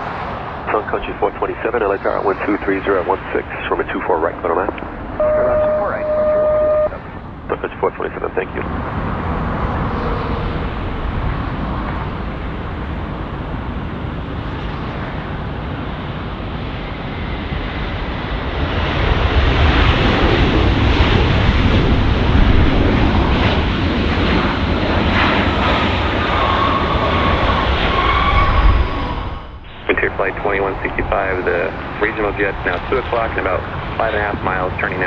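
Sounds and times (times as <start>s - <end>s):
jet airliner engines passing: 0.0s - 35.0s.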